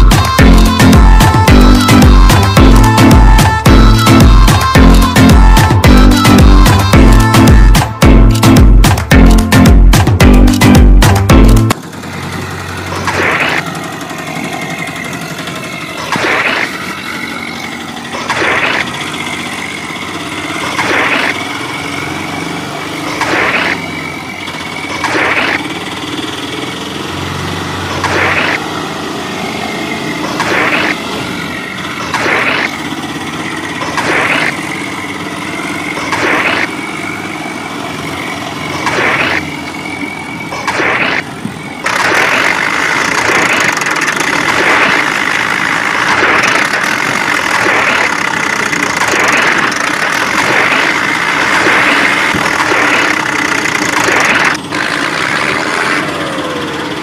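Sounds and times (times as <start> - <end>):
tractor engine surging: 0.0 - 57.0.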